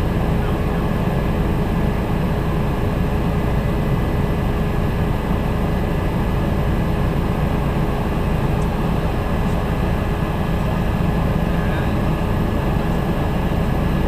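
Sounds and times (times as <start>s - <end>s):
faint steady whines: 0.0s - 14.0s
helicopter rotor and engine noise: 0.0s - 14.0s.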